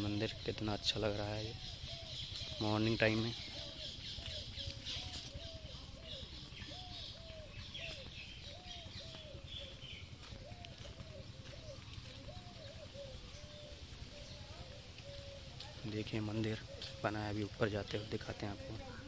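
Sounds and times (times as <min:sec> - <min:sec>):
dove cooing: 0:00.0 - 0:19.0
small birds chirping: 0:00.0 - 0:19.0.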